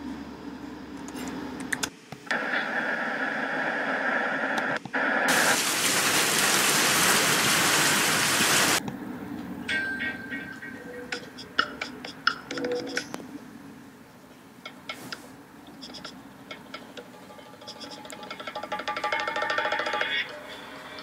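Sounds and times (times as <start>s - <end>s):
white noise static hiss: 0.0s - 12.3s, 13.1s - 21.0s.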